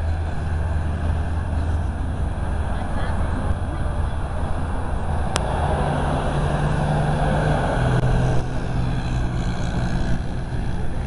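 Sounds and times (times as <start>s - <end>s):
steady rush of traffic noise: 0.0s - 11.0s
vehicle engine humming: 0.0s - 11.0s.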